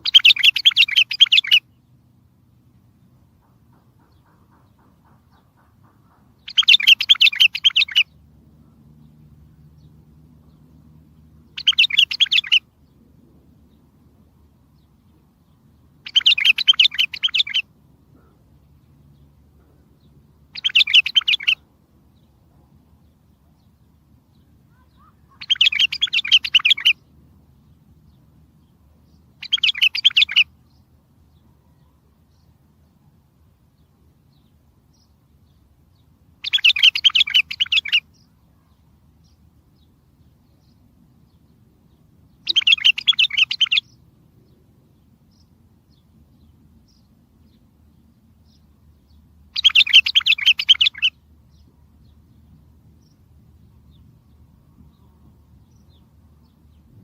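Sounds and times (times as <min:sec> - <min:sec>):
bird singing warbled phrases: 0:00.0 - 0:02.2, 0:03.0 - 0:57.0.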